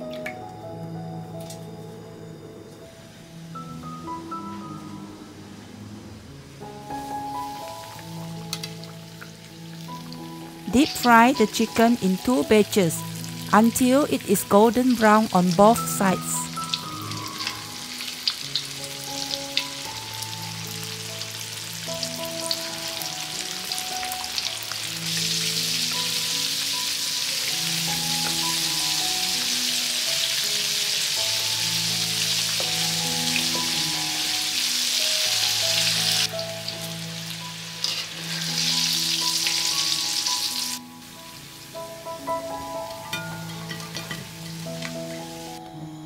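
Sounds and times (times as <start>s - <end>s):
soft background music: 0.0s - 46.0s
chicken deep-frying in oil: 7.0s - 45.6s.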